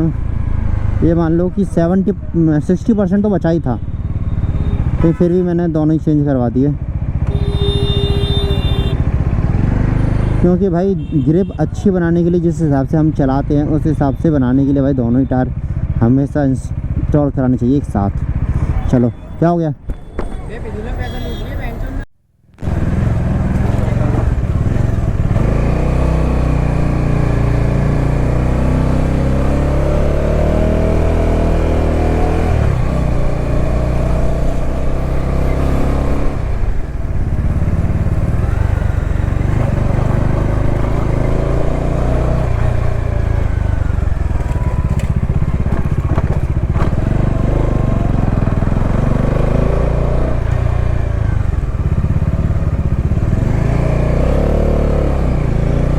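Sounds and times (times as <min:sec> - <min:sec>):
motorcycle engine revving: 0:00.0 - 0:19.2, 0:22.6 - 0:55.9.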